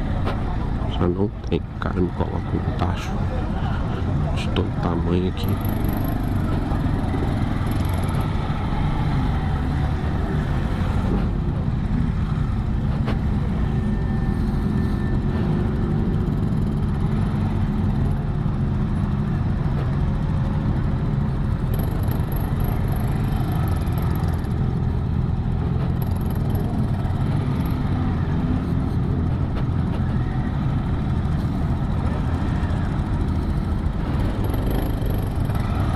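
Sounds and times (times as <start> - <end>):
motorcycle engine running: 5.4 - 35.9.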